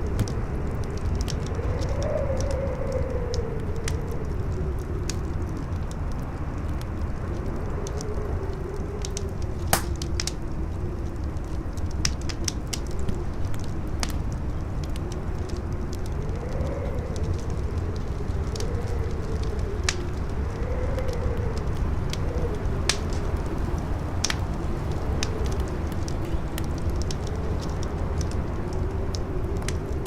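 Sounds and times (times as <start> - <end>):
campfire crackling and popping: 0.0 - 30.0
howling wind: 0.0 - 30.0.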